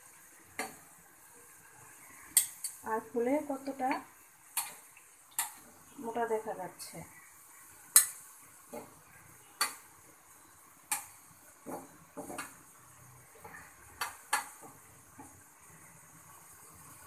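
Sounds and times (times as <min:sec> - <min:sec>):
food frying in oil: 0:00.0 - 0:17.0.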